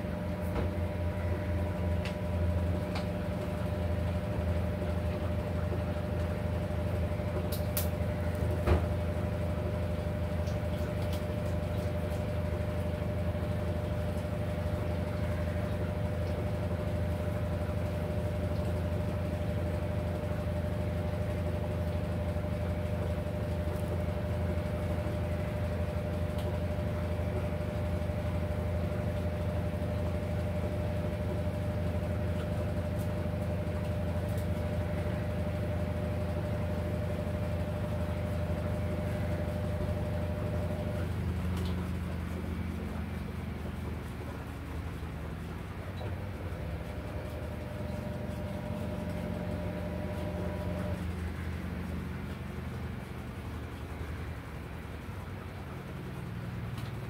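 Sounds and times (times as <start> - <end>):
motor humming: 0.0 - 57.0.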